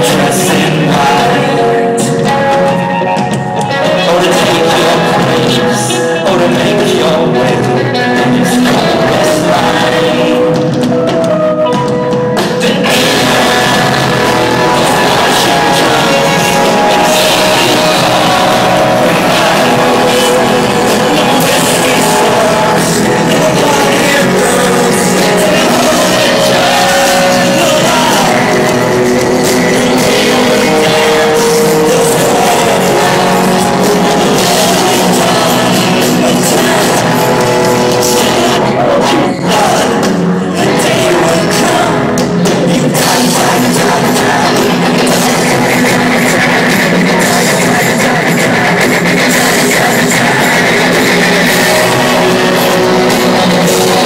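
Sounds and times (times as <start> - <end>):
drum kit: 0.0 - 54.0
live rock band playing: 0.0 - 54.0
person singing: 0.0 - 54.0.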